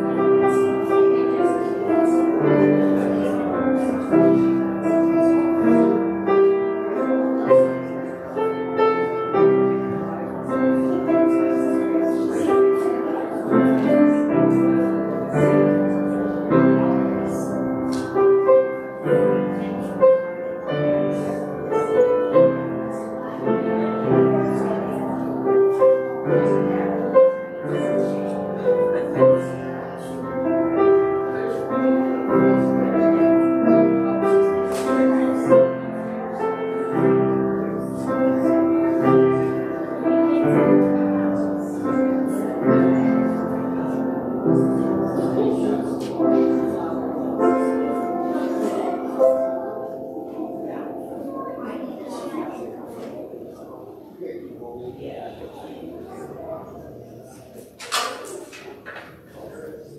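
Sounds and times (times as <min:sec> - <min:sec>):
slow piano music: 0:00.0 - 0:54.0.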